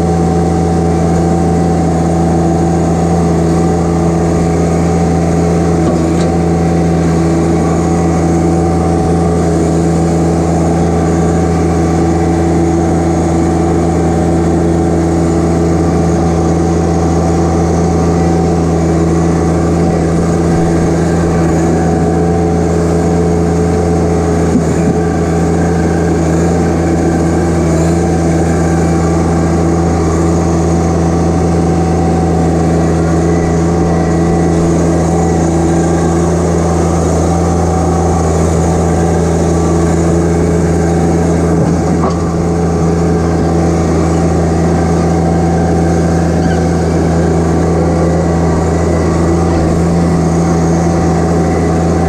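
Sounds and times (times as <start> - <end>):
tractor diesel engine droning: 0.0 - 52.0.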